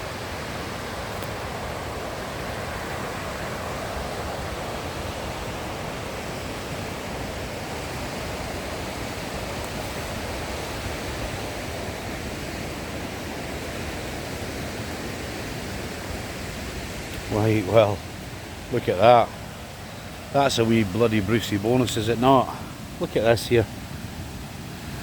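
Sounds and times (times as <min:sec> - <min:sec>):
fast-flowing river rushing: 0:00.0 - 0:25.0.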